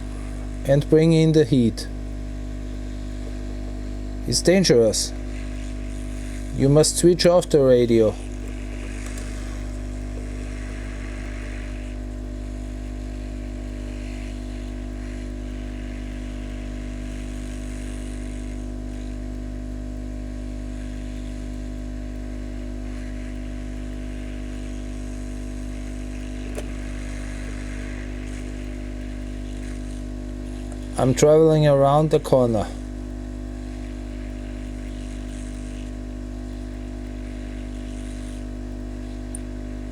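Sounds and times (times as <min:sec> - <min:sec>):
hot air blower humming: 0:00.0 - 0:39.9.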